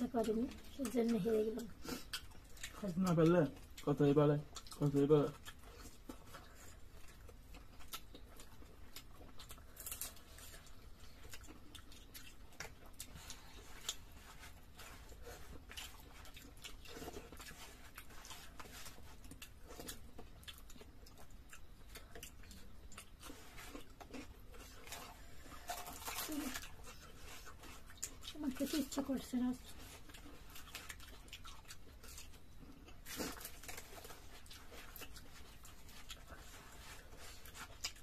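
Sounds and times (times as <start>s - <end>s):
chewing and wet mouth clicks: 0.2s - 28.8s, 29.9s - 38.0s.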